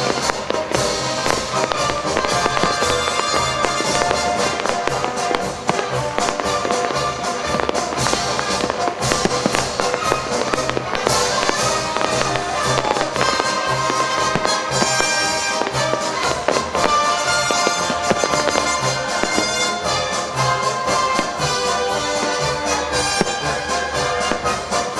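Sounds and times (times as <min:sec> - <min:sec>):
fireworks popping and crackling: 0:00.0 - 0:24.9
loud music: 0:00.0 - 0:24.9.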